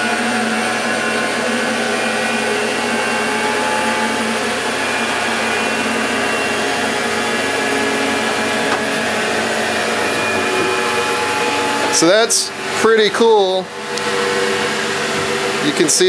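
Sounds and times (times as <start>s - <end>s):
motor and belt whirring: 0.0s - 16.0s.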